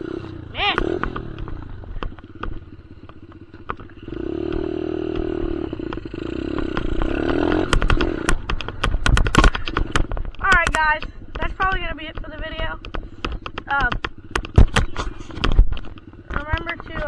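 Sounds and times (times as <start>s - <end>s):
dirt bike engine revving: 0.0s - 17.0s
sharp clattering knocks: 0.7s - 17.0s.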